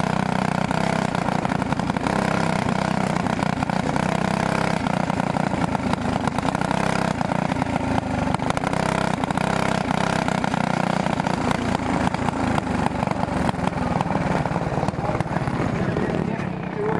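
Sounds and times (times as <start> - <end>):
kart engine running: 0.0 - 16.9.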